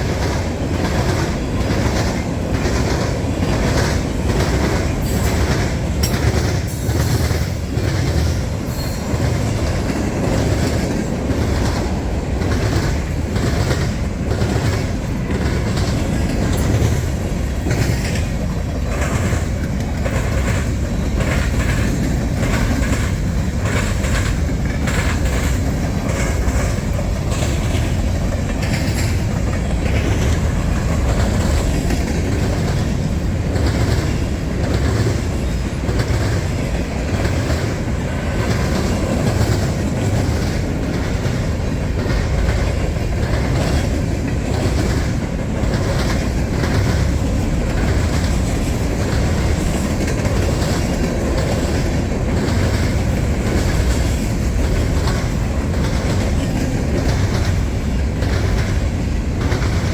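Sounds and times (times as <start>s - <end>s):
train cars rumbling past: 0.0s - 59.9s
wheels clacking over rail joints: 0.0s - 59.9s.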